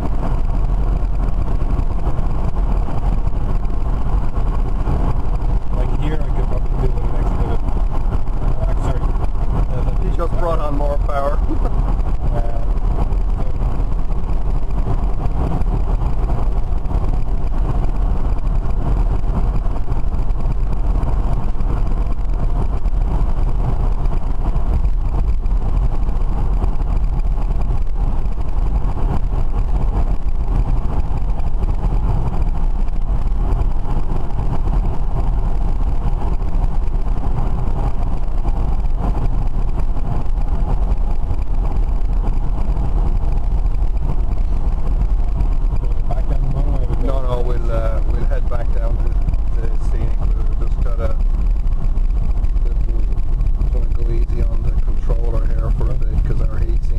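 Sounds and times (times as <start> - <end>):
road rumble in car cabin: 0.0 - 56.9.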